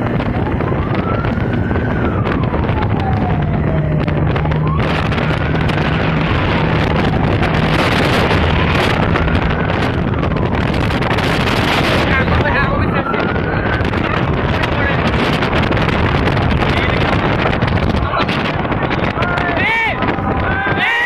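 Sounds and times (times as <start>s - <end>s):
engine hum: 0.0s - 20.8s
fire engine siren wailing: 0.0s - 21.0s
wind on microphone: 0.0s - 21.0s.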